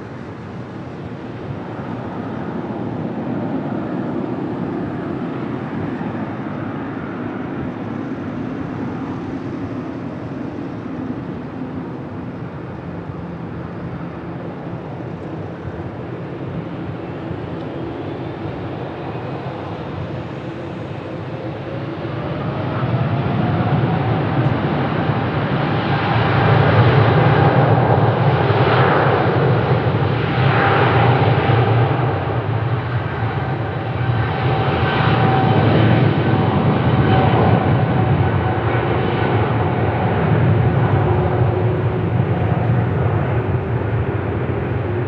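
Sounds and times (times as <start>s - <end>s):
jet engines rushing: 0.0s - 45.0s.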